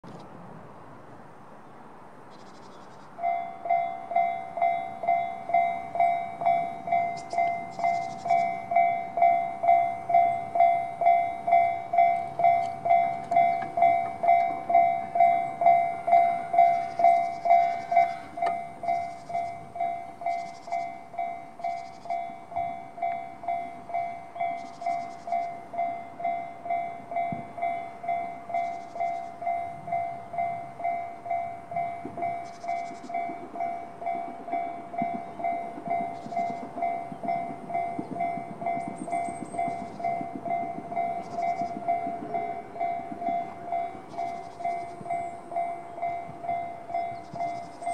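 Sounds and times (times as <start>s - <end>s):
level-crossing alarm bell: 3.2s - 47.9s.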